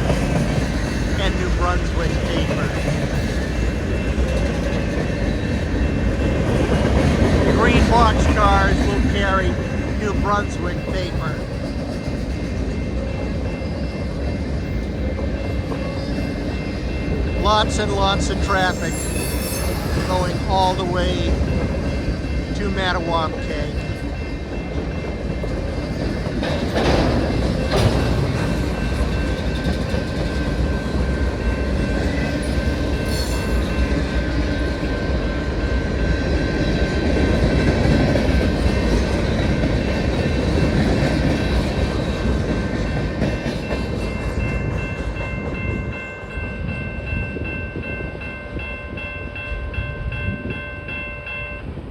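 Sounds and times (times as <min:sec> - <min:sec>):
train wheels rumbling and clacking: 0:00.0 - 0:48.3.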